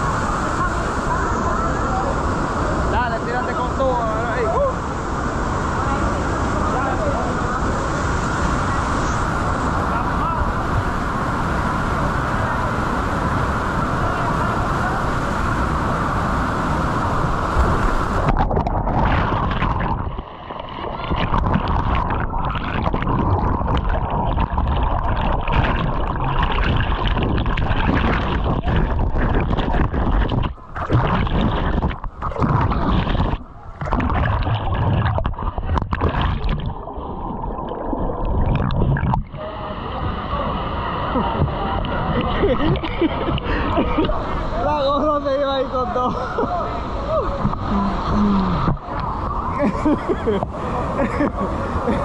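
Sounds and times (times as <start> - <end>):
river water rushing and gurgling: 0.0 - 52.0.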